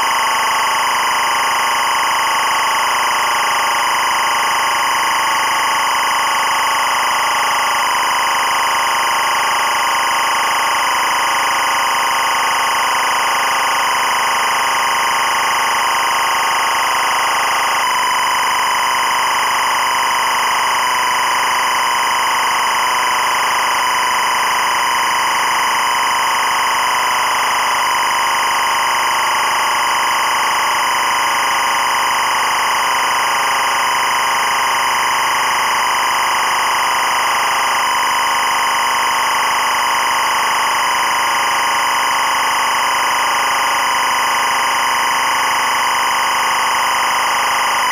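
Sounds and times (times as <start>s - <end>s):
high timecode data buzz: 0.0s - 47.9s.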